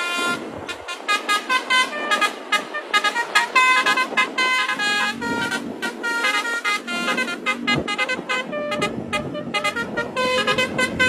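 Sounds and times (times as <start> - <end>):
multi-tone horn playing a melody: 0.0 - 11.0.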